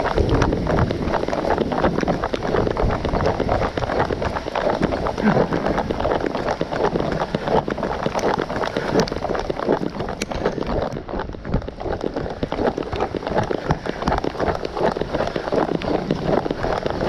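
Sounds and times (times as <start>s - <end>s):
gear jostling: 0.0s - 17.0s
rain pattering: 0.0s - 17.0s
running footsteps: 0.0s - 17.0s.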